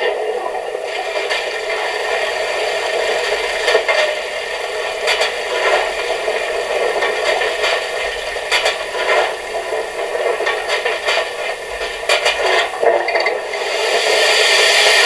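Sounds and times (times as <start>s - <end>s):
steam hiss from loudspeaker: 0.0s - 15.0s.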